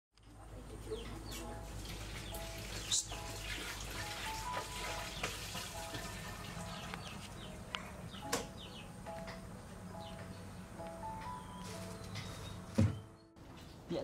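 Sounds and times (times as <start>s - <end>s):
music of short repeated notes: 1.0s - 13.4s.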